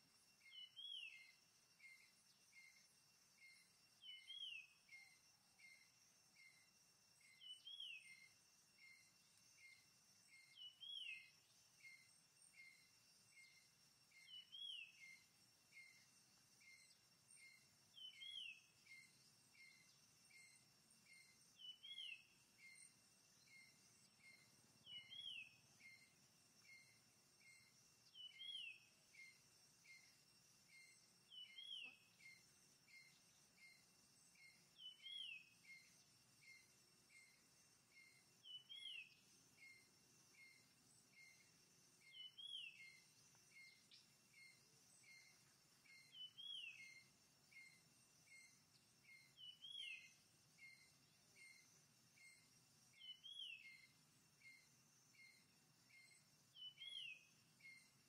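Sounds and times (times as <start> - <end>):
high insect hum: 0.0 - 58.0.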